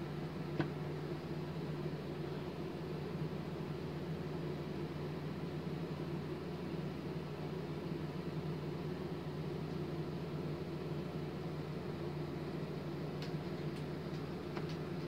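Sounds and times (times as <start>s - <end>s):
low mechanical hum with hiss: 0.0s - 15.0s.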